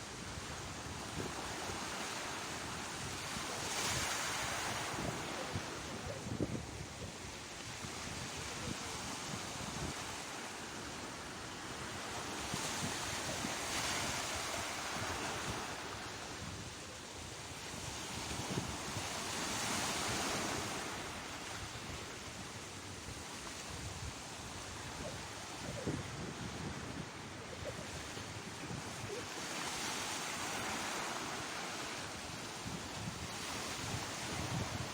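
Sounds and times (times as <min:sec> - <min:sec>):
sea waves breaking on shore: 0:00.0 - 0:34.9
wind buffeting microphone: 0:02.6 - 0:10.2, 0:11.9 - 0:34.9.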